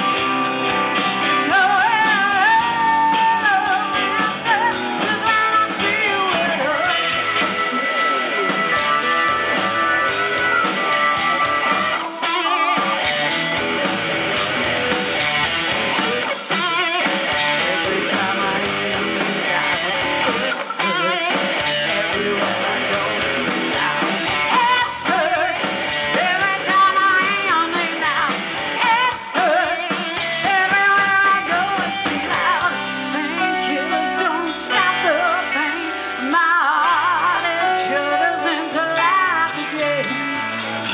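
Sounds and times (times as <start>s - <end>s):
bass guitar: 0.0s - 40.9s
drums: 0.0s - 40.9s
electric guitars: 0.0s - 40.9s
keyboards: 0.0s - 40.9s
woman singing: 1.0s - 9.0s, 15.9s - 40.6s.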